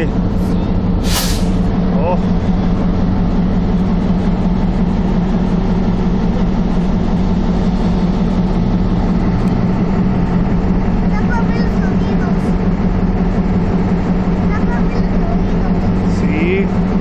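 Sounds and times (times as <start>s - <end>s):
locomotive diesel engine droning: 0.0s - 17.0s.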